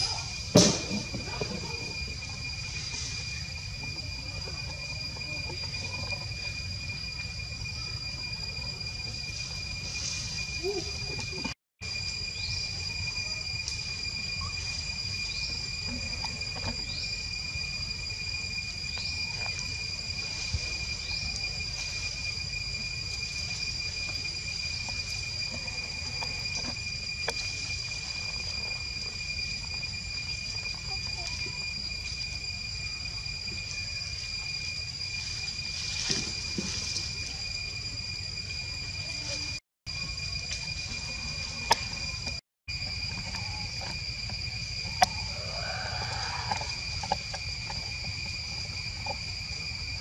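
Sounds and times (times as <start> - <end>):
high-pitched insect drone: 0.0 - 50.0.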